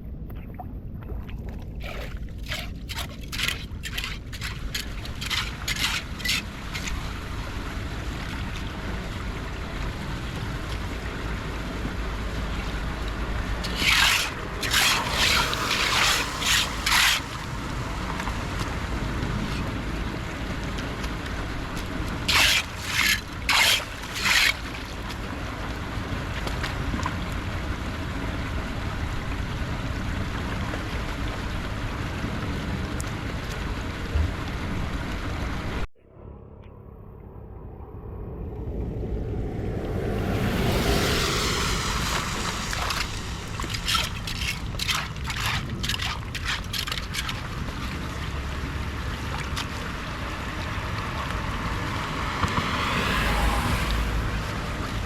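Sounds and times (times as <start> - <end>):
floodwater rushing: 1.8 - 35.8, 39.5 - 55.0.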